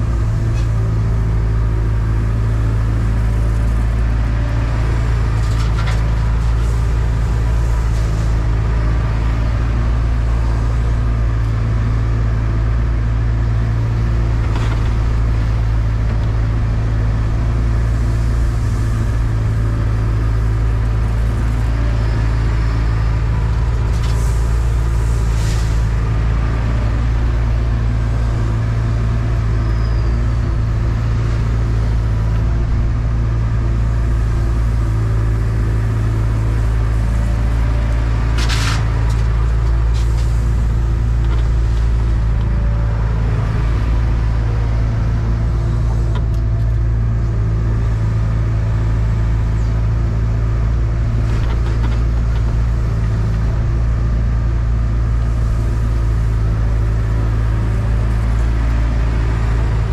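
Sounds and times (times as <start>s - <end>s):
excavator diesel engine hum: 0.0s - 59.9s.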